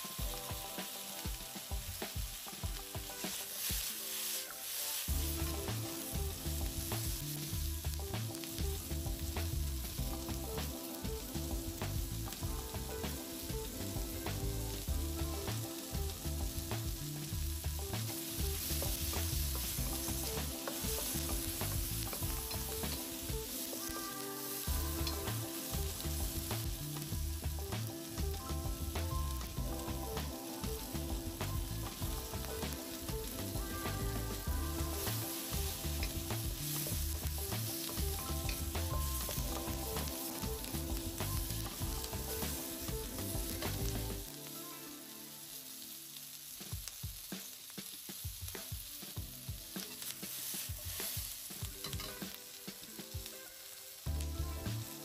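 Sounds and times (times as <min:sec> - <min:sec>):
vegetables sizzling in a wok: 0:00.0 - 0:55.0.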